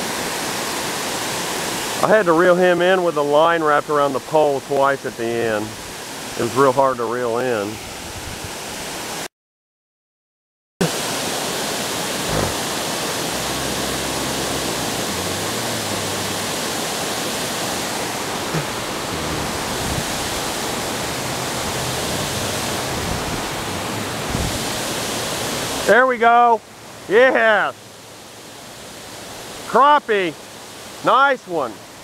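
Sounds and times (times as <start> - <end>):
water pouring over dam: 0.0 - 7.8, 10.8 - 32.0.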